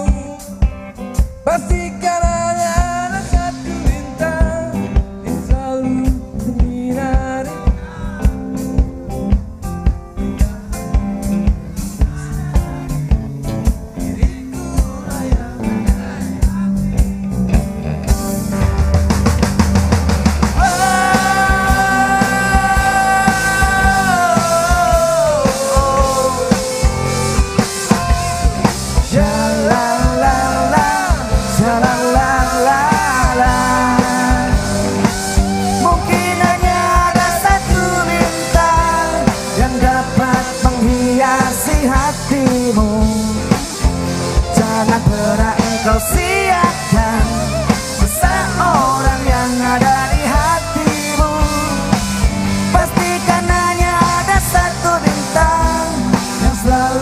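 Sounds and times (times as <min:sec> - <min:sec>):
band playing instrumental: 0:00.0 - 0:57.0
drum kit beat: 0:00.0 - 0:57.0.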